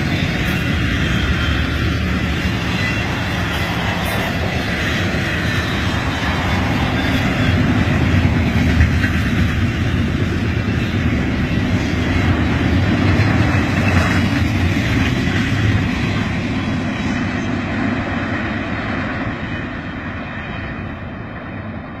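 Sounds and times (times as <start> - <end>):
freight train rushing past: 0.0 - 22.0.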